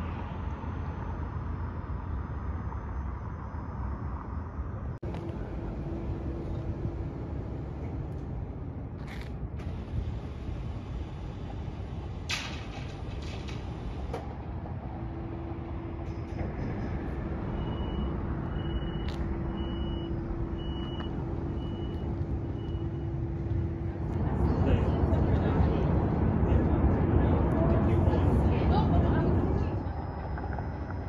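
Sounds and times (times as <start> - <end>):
streetcar hum: 0.0 - 31.0.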